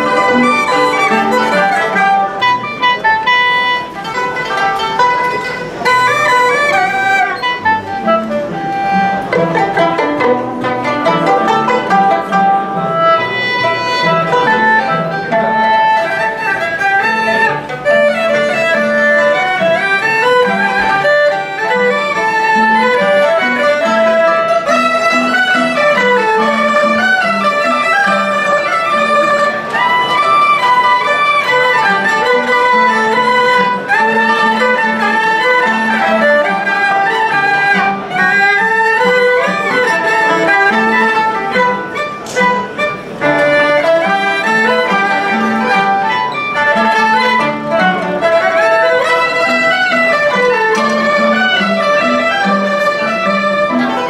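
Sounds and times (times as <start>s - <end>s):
erhu fiddle melody: 0.0s - 54.0s
plucked strings and cello accompaniment: 0.0s - 54.0s.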